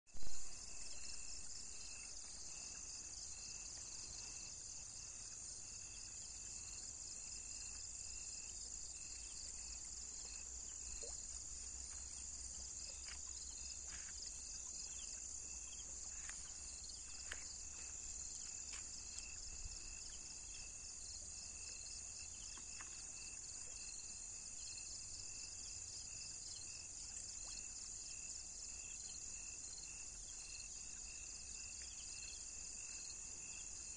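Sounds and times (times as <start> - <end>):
crickets chirring: 0.2 - 33.9.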